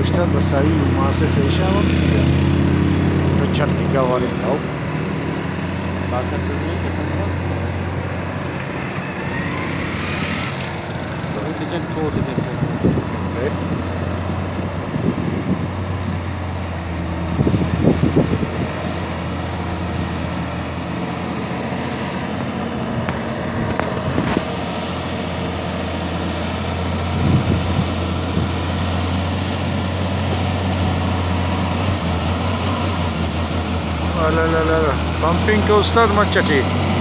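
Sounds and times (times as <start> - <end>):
diesel truck engine under load: 0.0 - 37.0.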